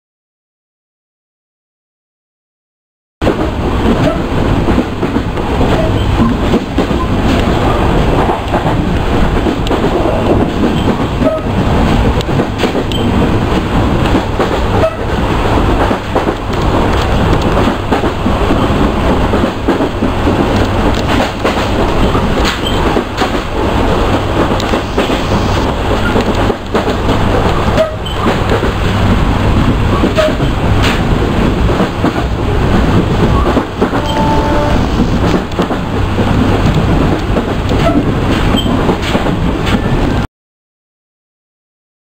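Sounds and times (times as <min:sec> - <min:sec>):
train rumbling at speed: 0:03.2 - 0:40.3.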